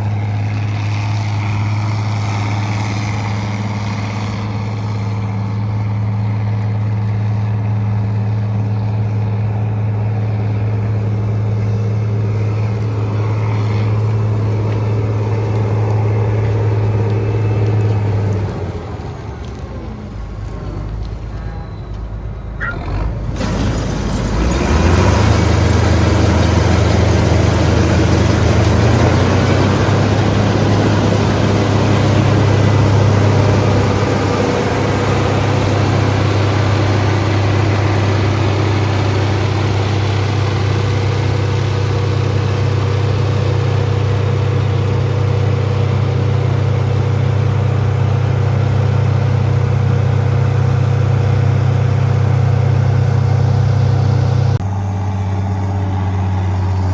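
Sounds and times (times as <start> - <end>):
farm machinery engine running: 0.0 - 56.9.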